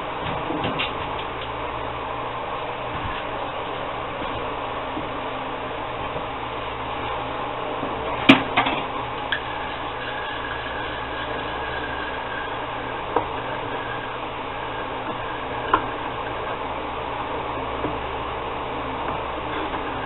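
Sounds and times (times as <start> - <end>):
bench machine humming: 0.0 - 20.0.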